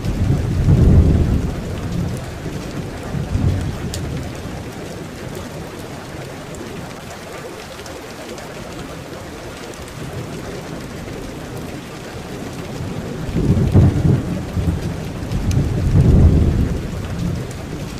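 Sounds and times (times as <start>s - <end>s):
thunder rolling: 0.0s - 6.9s, 10.0s - 17.9s
rain falling: 0.0s - 17.9s.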